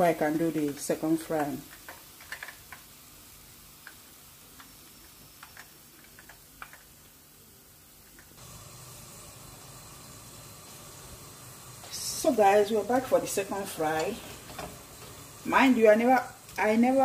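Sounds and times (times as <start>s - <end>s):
hot oil ticking and crackling: 0.1s - 7.2s, 7.9s - 17.0s.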